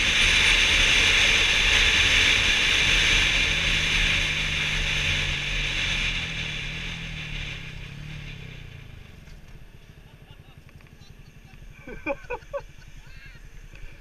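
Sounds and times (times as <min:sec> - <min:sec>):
motorcycle engine: 0:00.0 - 0:14.0.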